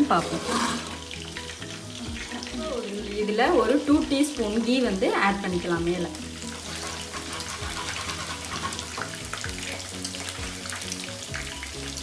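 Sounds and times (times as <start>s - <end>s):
instrumental music with held notes: 0.0s - 12.0s.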